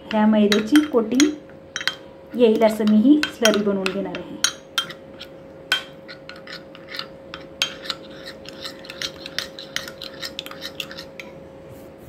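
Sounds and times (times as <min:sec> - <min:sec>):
faint steady hum: 0:00.0 - 0:12.0
metal spoon clinking glass bowl: 0:00.5 - 0:11.3.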